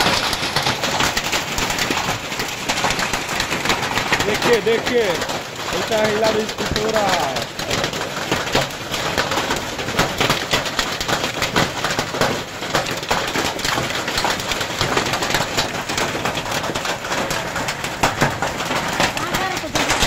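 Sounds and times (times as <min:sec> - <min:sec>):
hailstones pelting the ground: 0:00.0 - 0:20.0.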